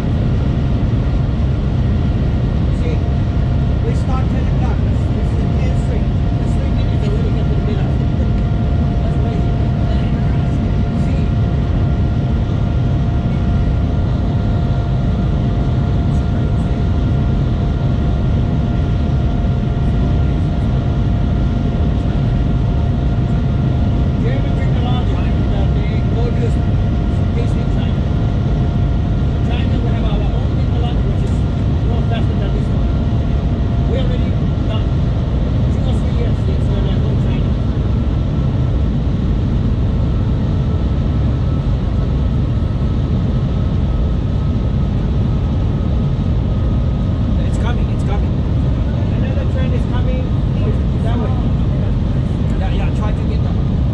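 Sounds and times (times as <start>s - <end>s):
faint high whine: 0.0s - 53.9s
train low rumble: 0.0s - 53.9s.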